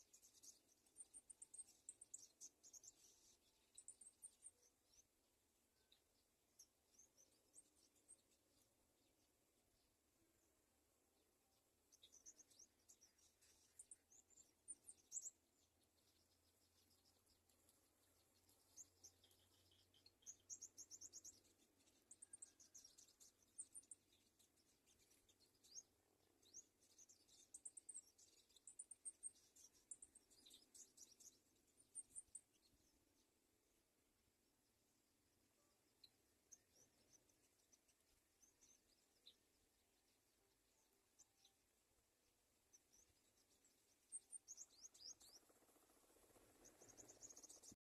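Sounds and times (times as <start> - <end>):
faint high bird chirps: 0.0 - 33.8, 35.1 - 47.8.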